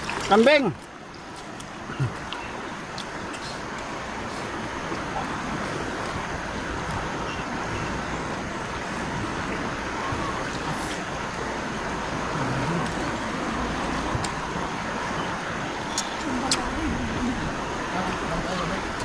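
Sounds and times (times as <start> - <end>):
fast-flowing river rushing: 0.0 - 19.0.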